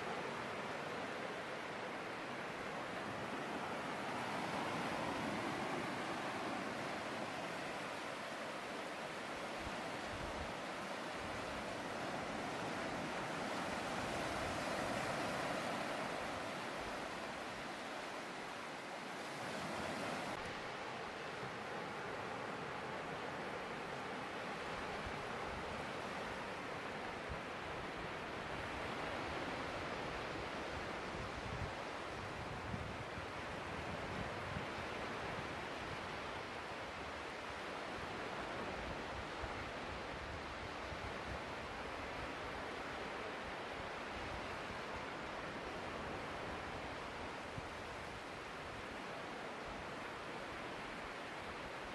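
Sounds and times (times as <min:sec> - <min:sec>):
sea surf washing on shore: 0:00.0 - 0:51.9.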